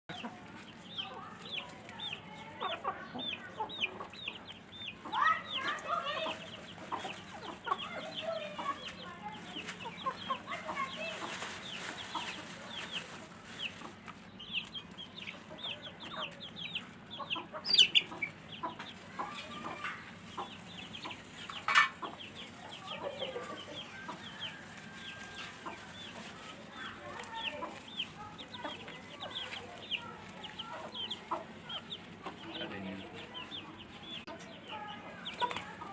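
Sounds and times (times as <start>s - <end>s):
hens clucking: 0.1s - 35.9s.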